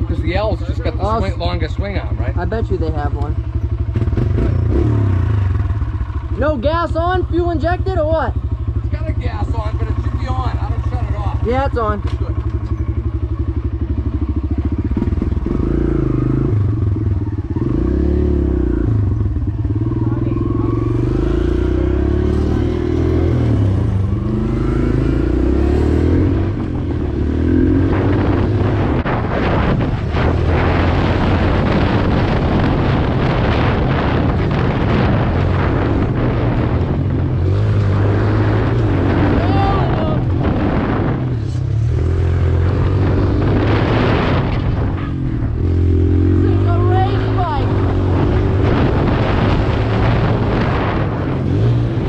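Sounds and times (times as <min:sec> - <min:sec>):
pit bike engine revving: 0:00.0 - 0:52.0.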